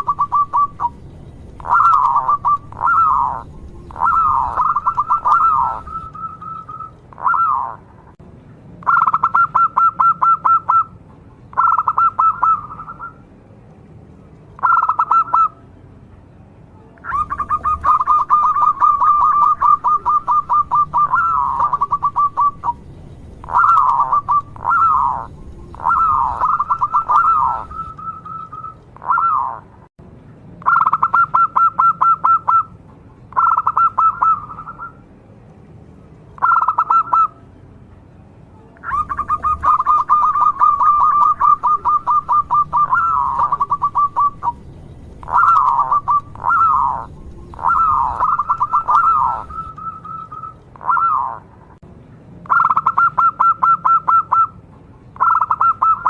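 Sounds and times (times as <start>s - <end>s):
dove rolling cooing song: 0.0s - 8.0s, 8.8s - 13.2s, 14.6s - 15.6s, 17.0s - 29.8s, 30.6s - 32.7s, 33.3s - 35.0s, 36.4s - 37.4s, 38.8s - 51.5s, 52.5s - 54.6s, 55.2s - 56.0s.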